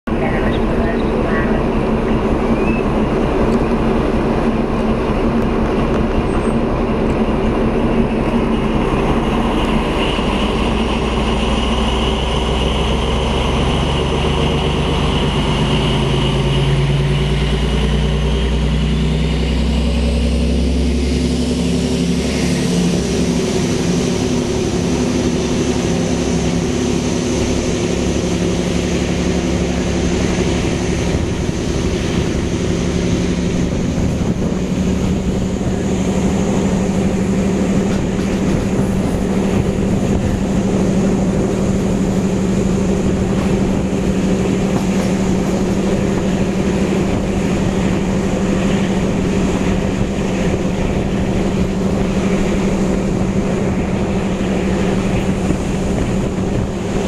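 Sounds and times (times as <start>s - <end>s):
diesel locomotive engine: 0.0s - 57.0s
wheel and rail noise: 0.0s - 57.0s.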